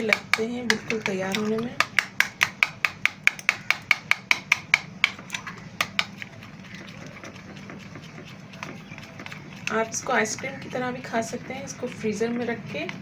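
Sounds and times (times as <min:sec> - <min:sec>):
whisk clicking against bowl: 0:00.0 - 0:13.0.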